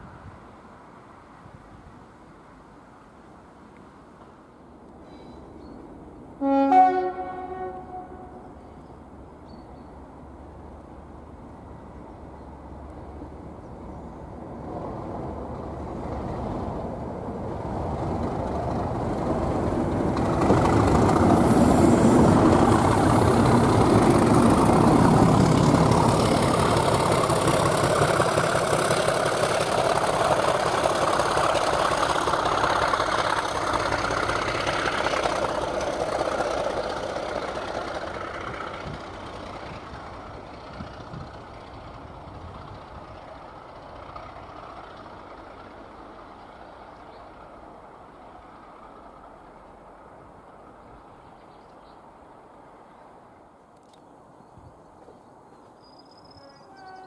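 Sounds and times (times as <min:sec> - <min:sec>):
diesel locomotives passing: 0:00.0 - 0:57.0.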